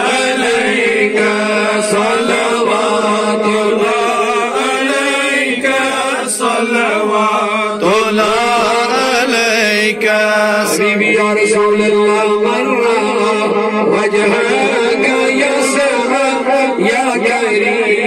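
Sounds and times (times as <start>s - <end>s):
amplified lead voice chanting: 0.0s - 18.0s
men chanting together: 0.0s - 18.0s.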